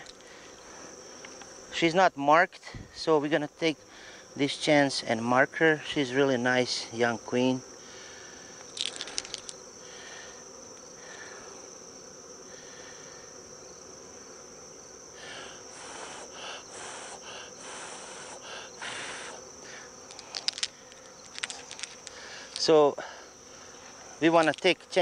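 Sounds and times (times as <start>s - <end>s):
crickets chirring: 0.0s - 25.0s
honeybees humming: 0.0s - 25.0s.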